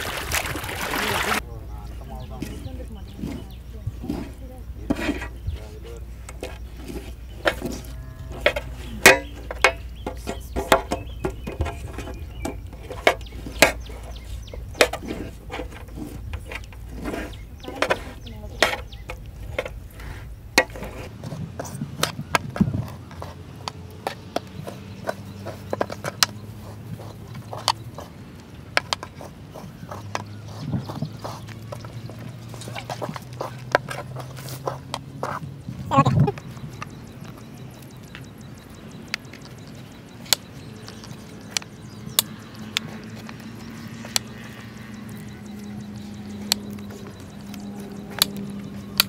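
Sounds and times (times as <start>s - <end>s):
sharp knocks and taps: 6.2s - 49.0s.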